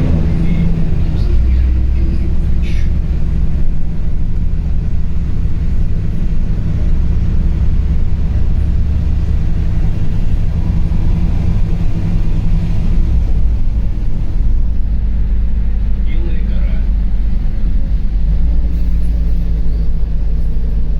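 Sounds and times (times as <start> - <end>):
bus engine and road rumble: 0.0 - 20.9.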